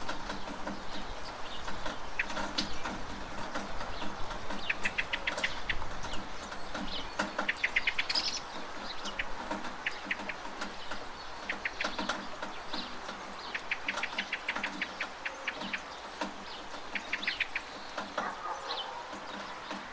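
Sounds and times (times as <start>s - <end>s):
drops dripping from a gutter: 0.0s - 19.9s
steady rain: 0.0s - 19.9s
bird chirping: 0.1s - 19.9s.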